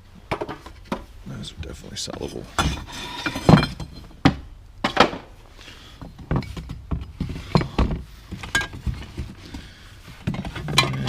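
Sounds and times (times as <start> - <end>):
objects knocking and clunking: 0.2 - 1.2, 2.1 - 11.0.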